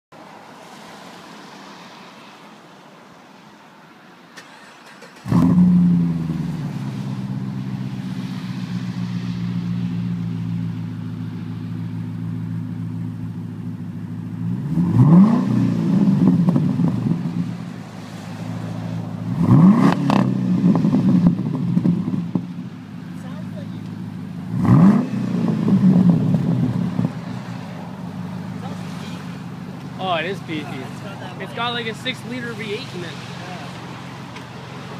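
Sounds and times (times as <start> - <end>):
car engine starting and revving: 4.4 - 34.9.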